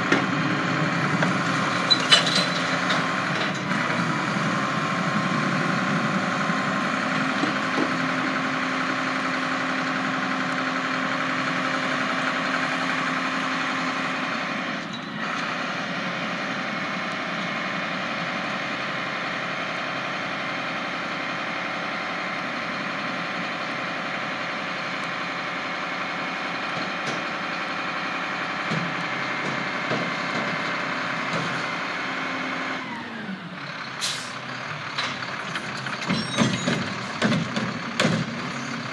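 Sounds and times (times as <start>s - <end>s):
garbage truck engine and hydraulics: 0.0s - 38.9s.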